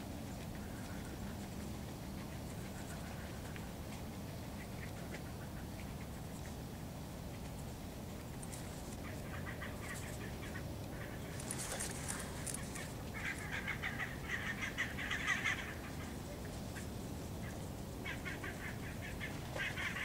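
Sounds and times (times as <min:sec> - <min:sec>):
wild birds calling: 0:00.0 - 0:20.0.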